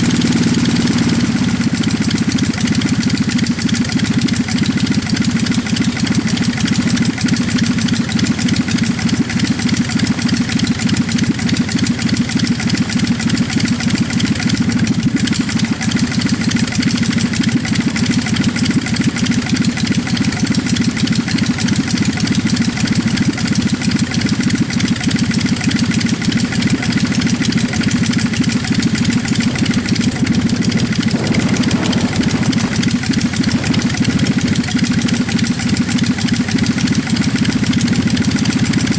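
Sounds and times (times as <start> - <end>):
small aircraft engine running: 0.0 - 38.9.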